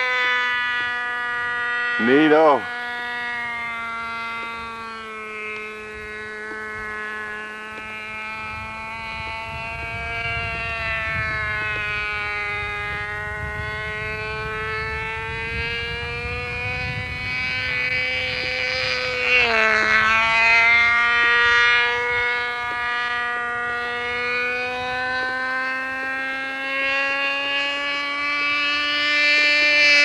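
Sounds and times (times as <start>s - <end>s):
model airplane motor buzzing: 0.0s - 30.0s.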